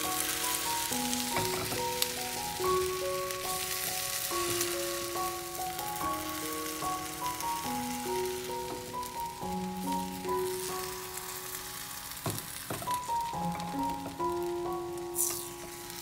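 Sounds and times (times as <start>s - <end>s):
background music simple melody: 0.0s - 16.0s
food sizzling in a pan: 0.0s - 16.0s.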